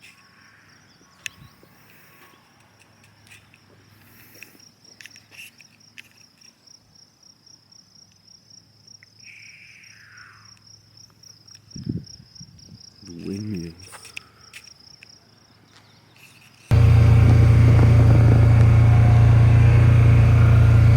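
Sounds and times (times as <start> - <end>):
insects trilling: 0.0 - 19.6.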